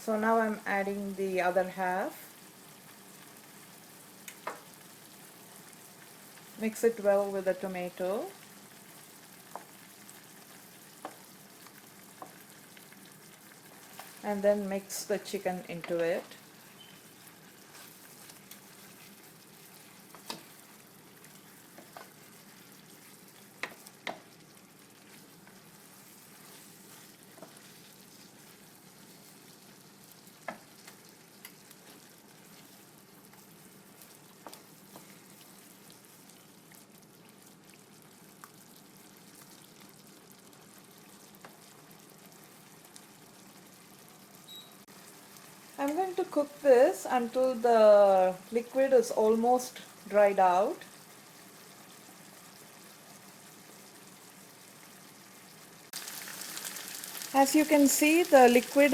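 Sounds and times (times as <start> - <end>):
chicken sizzling in a pan: 0.0 - 58.9.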